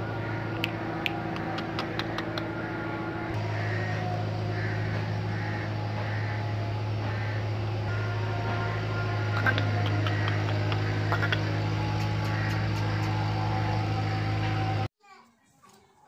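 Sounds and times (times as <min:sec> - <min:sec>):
bird calling: 0:00.0 - 0:14.3
steady low hum: 0:00.0 - 0:14.9.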